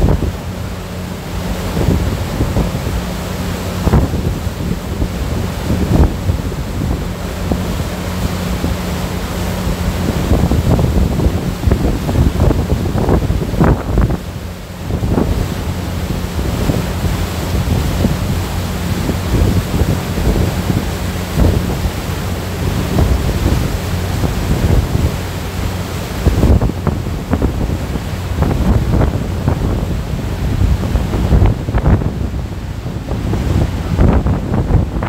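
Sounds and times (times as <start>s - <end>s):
boat wake churning: 0.0s - 35.0s
low engine hum: 0.0s - 35.0s
wind buffeting microphone: 0.0s - 35.0s.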